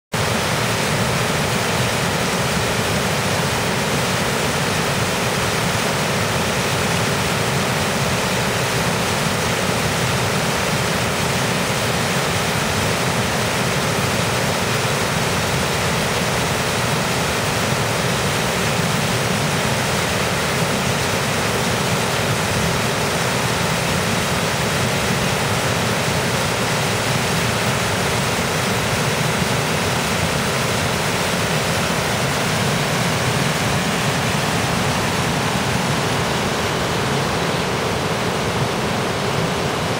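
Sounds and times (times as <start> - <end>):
stream rushing over boulders: 0.2 - 39.9.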